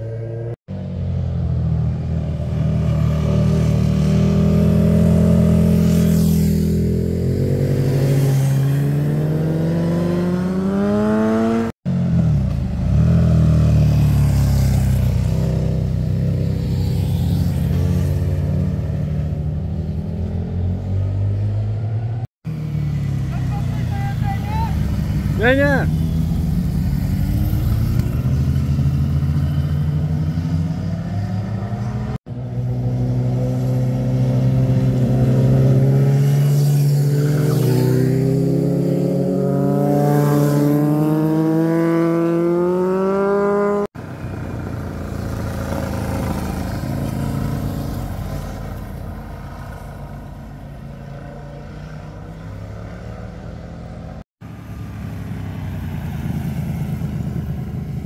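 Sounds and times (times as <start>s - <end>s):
motorcycle engine accelerating: 0.0s - 23.9s, 24.7s - 58.0s
motorcycle passing: 0.0s - 58.0s.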